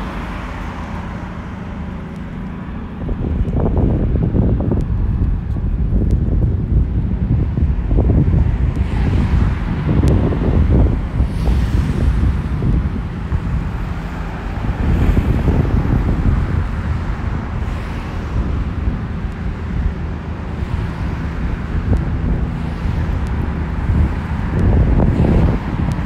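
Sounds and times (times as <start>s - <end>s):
road traffic hiss: 0.0s - 26.0s
wind gusting on microphone: 0.0s - 26.0s.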